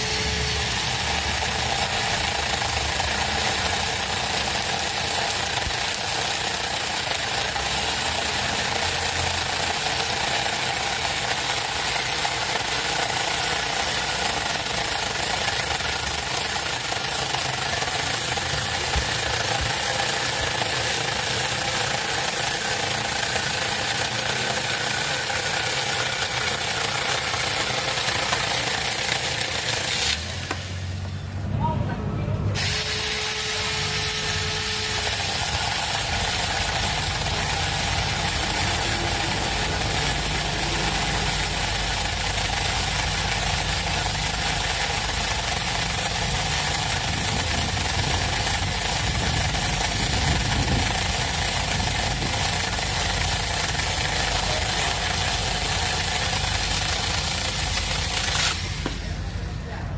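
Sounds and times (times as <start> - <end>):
chainsaw cutting wood: 0.0 - 31.0, 32.6 - 59.5.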